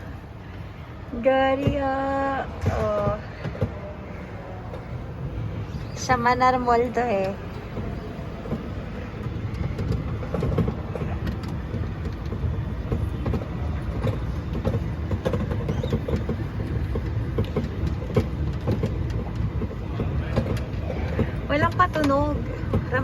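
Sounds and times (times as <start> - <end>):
kiddie ride train rumbling: 0.0 - 23.0.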